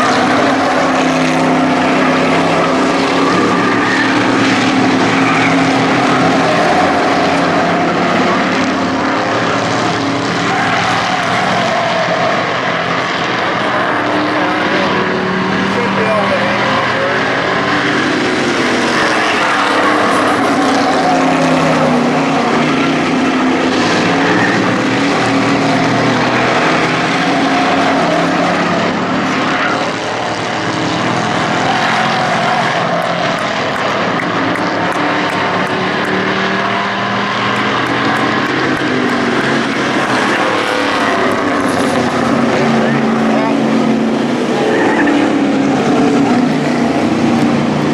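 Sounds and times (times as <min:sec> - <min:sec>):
race truck engines droning: 0:00.0 - 0:47.9.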